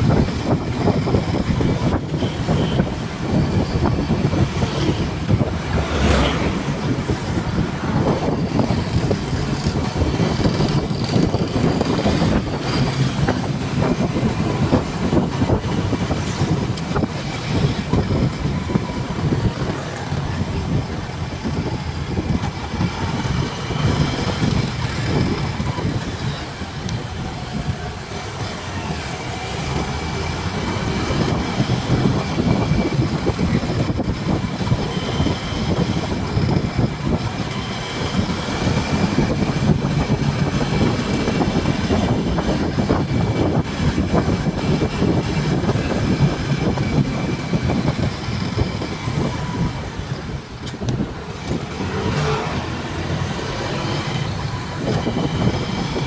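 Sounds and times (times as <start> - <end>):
motorcycle engine and tyres drone: 0.0 - 56.0
wind buffeting microphone: 0.0 - 56.0.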